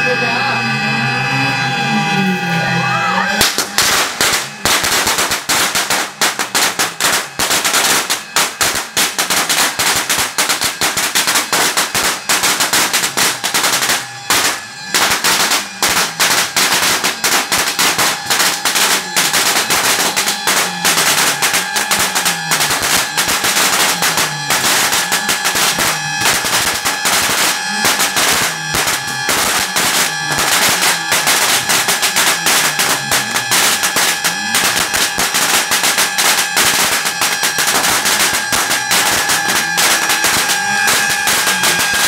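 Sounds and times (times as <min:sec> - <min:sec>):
firecrackers crackling: 0:02.8 - 0:42.0.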